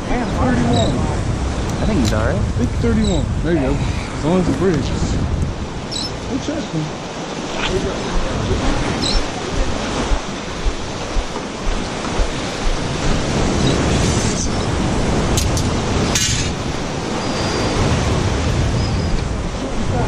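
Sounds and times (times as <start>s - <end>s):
ocean surf on rocks: 0.0s - 20.0s.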